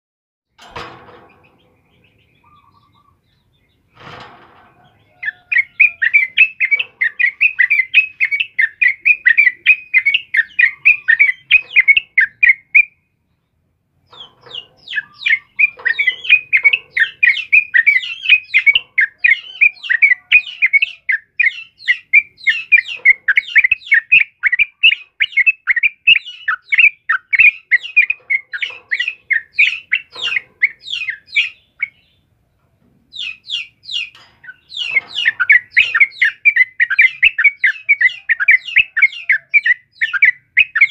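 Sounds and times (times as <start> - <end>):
bird chattering song: 0.8 - 4.2, 4.8 - 32.3, 33.1 - 40.9.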